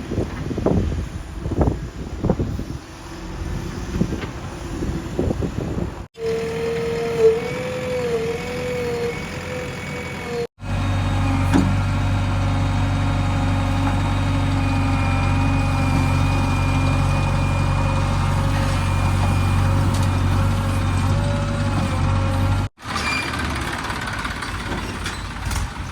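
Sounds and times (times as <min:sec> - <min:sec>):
heavy diesel engine running: 0:01.3 - 0:25.9.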